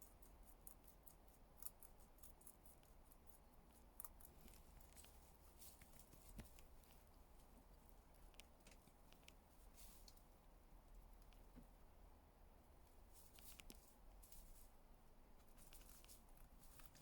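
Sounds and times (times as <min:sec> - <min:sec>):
rabbit chewing leaves: 0:00.0 - 0:17.0.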